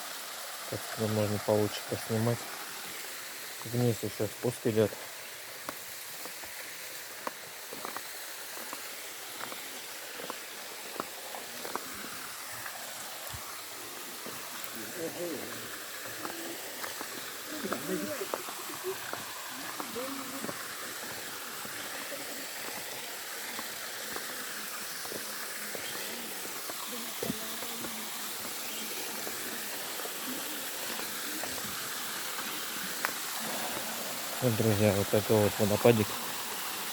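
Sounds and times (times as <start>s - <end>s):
small waterfall rushing: 0.0s - 36.9s.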